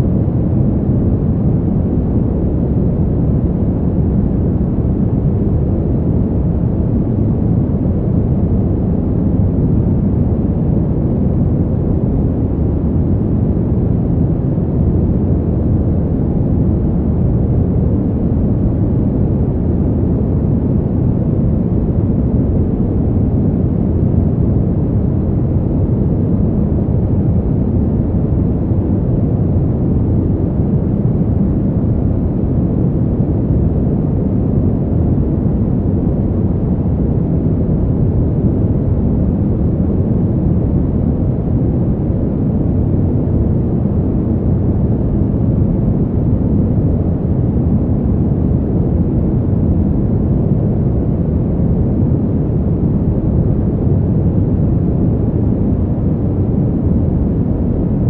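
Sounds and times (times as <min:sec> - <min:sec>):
low rumbling wind: 0:00.0 - 0:58.0.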